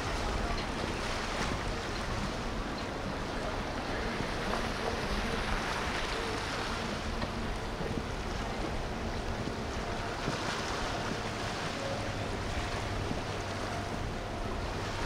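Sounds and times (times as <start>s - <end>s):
motorboat engine hum: 0.0s - 15.0s.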